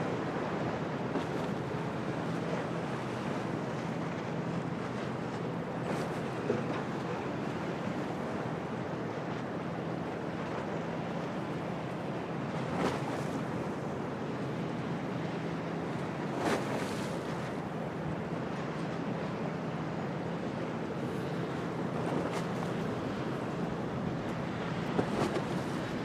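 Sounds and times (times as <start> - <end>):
choppy water: 0.0 - 26.0
waves splashing: 0.0 - 26.0
wind: 0.0 - 26.0.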